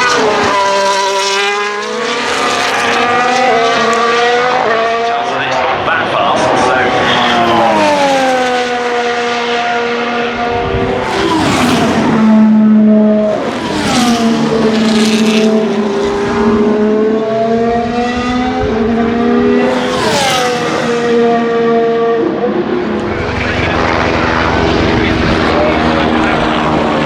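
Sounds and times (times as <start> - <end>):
racing cars passing at speed: 0.0 - 27.0.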